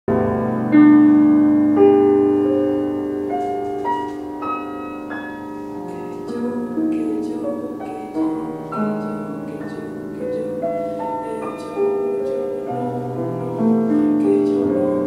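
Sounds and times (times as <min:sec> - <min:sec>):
grand piano notes: 0:00.1 - 0:15.0.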